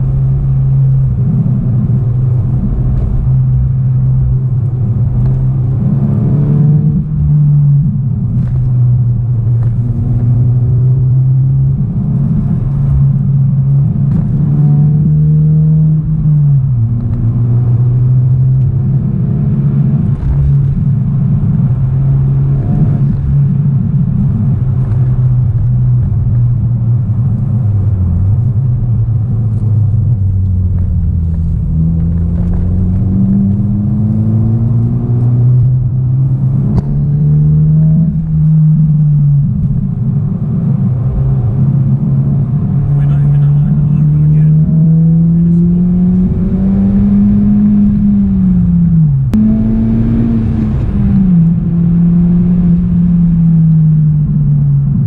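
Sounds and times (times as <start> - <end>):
car engine drone from cabin: 0.0 - 55.0.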